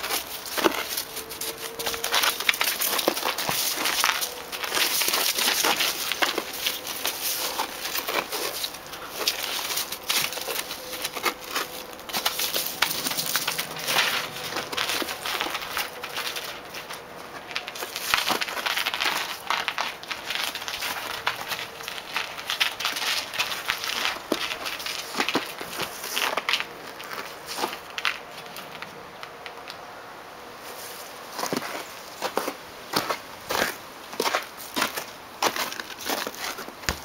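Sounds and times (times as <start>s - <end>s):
footsteps crunching on snow: 0.0s - 28.9s, 30.6s - 37.0s.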